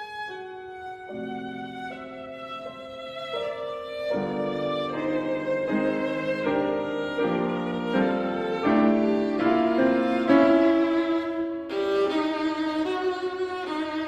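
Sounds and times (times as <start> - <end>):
bowed violin: 0.0 - 14.0
piano chords: 0.0 - 14.0.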